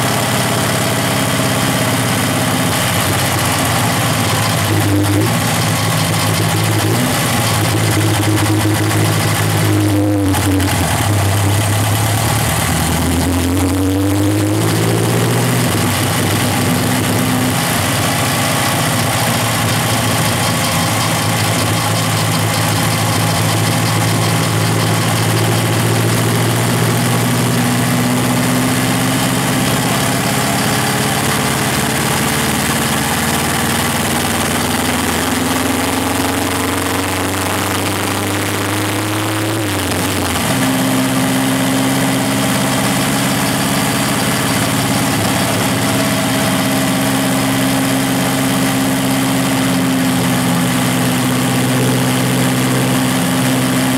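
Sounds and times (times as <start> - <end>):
car engine and exhaust running: 0.0 - 53.9.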